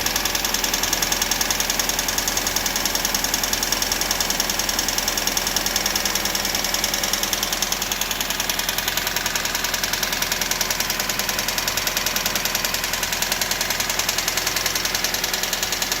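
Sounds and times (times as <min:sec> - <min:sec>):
car engine ticking: 0:00.0 - 0:16.0.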